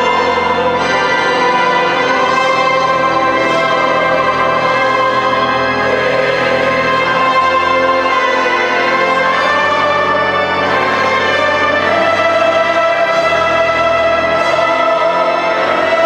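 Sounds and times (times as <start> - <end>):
large choir singing: 0.0 - 16.0.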